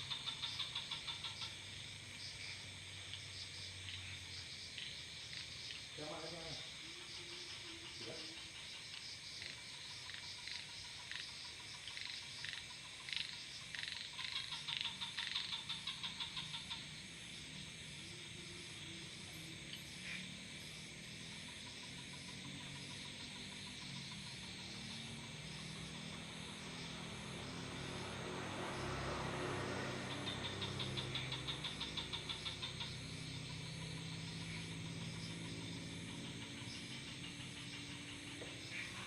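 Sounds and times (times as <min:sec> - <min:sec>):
frogs clicking calls: 0:00.0 - 0:39.0
insect chorus: 0:00.0 - 0:39.0.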